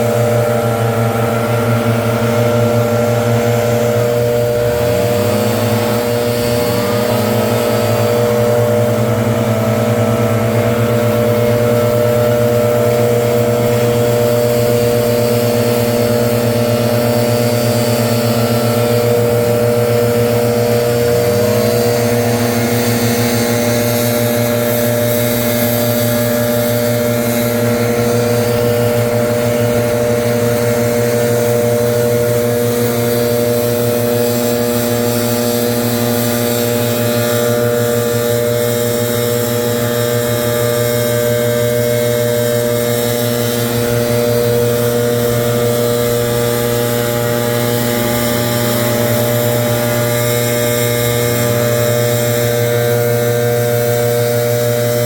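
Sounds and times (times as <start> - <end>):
gas leaf blower running: 0.0 - 55.0.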